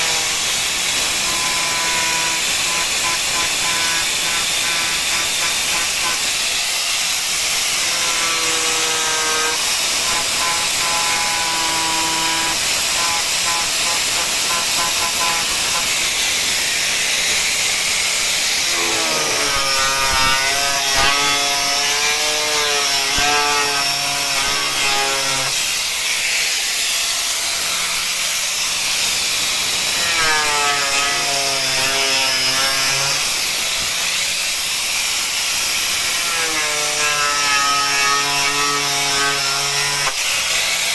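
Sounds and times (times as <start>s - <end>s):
angle grinder cutting plastic: 0.0s - 40.9s.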